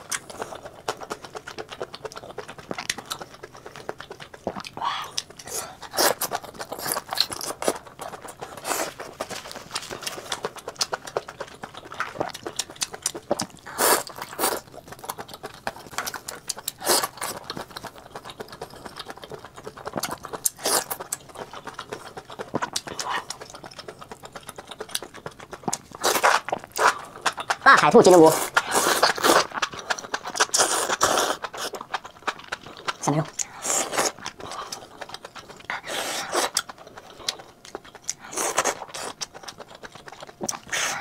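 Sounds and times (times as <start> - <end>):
person chewing and smacking: 0.0 - 41.0.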